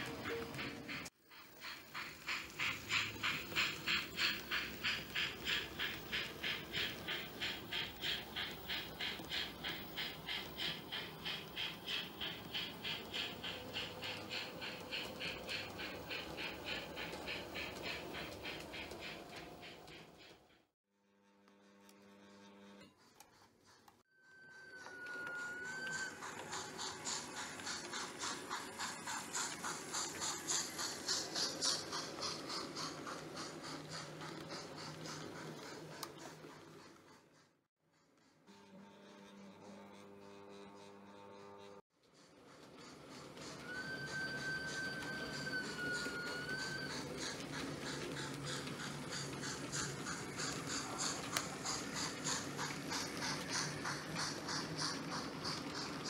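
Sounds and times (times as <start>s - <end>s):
model steam locomotive chuffing: 0.0s - 20.7s, 22.2s - 56.0s.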